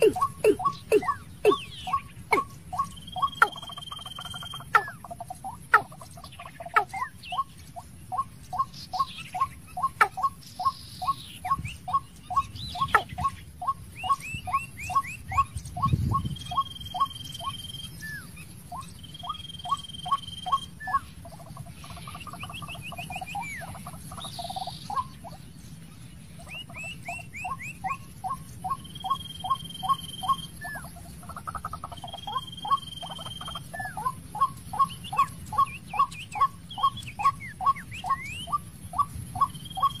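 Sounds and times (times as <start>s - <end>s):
birds giving high whistles: 0.0s - 25.4s, 26.4s - 40.0s
bird calling in rapid notes: 0.0s - 25.6s, 26.2s - 40.0s.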